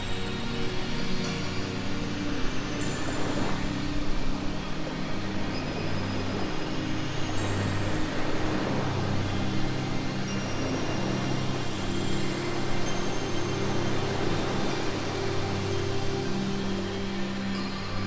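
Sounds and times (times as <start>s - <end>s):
ambient meditation music drone: 0.0s - 18.0s.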